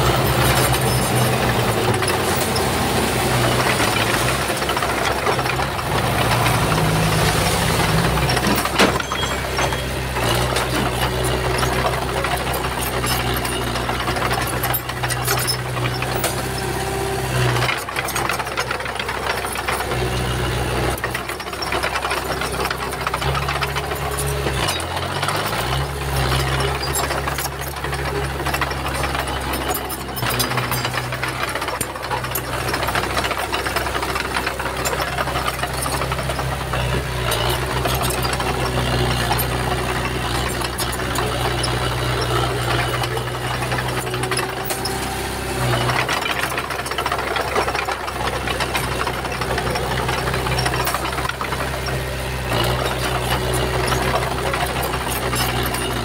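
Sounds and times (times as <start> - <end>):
bulldozer diesel engine under load: 0.0 - 56.0
metallic rattling and clatter: 0.0 - 56.0.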